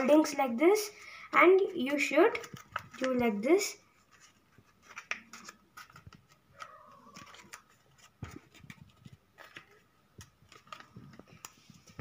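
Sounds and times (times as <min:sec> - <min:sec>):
paper crackling and rustling: 0:02.3 - 0:12.0.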